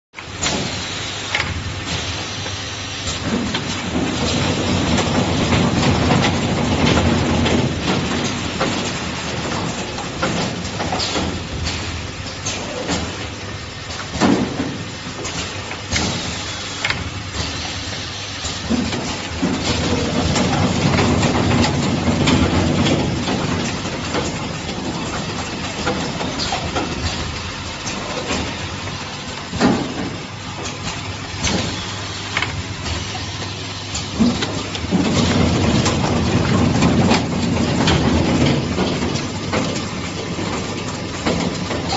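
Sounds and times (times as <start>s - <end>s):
machine clicks and clacks: 0.2s - 41.9s
machine hum: 0.2s - 41.9s.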